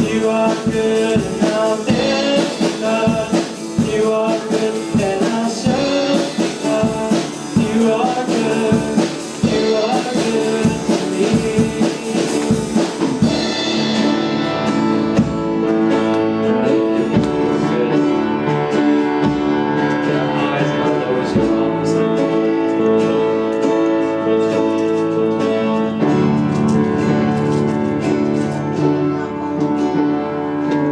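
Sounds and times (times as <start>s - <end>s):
drum kit: 0.0s - 30.9s
worship band playing: 0.0s - 30.9s.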